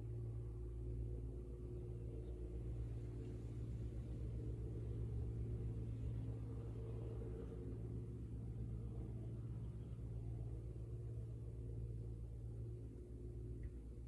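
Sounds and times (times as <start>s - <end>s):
boat diesel engine drone: 0.0s - 14.0s.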